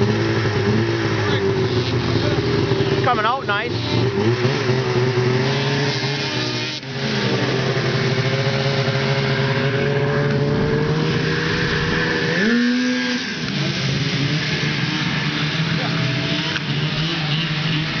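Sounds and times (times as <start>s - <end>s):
snowmobile engines idling: 0.0s - 18.0s.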